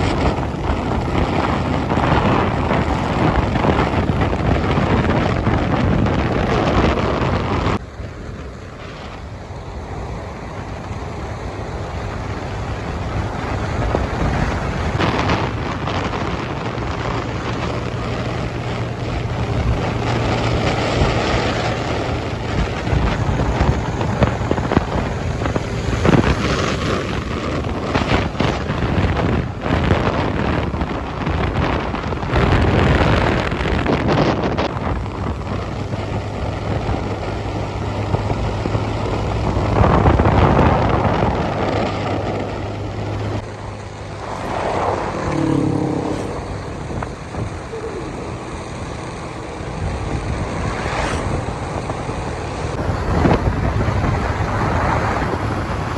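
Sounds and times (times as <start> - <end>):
motorcycle engine cruising: 0.0 - 55.9
wind buffeting microphone: 0.0 - 55.9.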